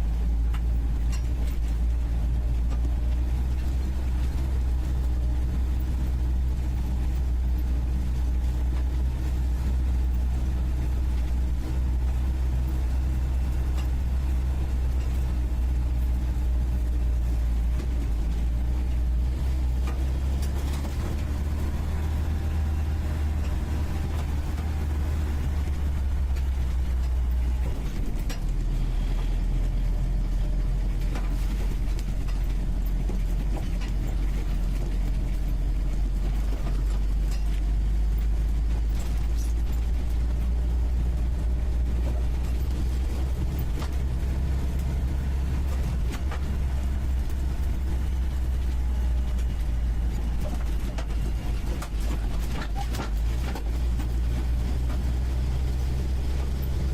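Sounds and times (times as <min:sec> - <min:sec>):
vehicle engine from inside cabin: 0:00.0 - 0:56.9.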